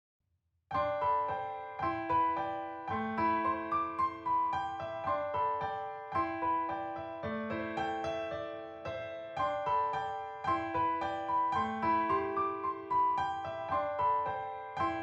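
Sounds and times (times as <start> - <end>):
gentle piano melody: 0.7 - 15.0.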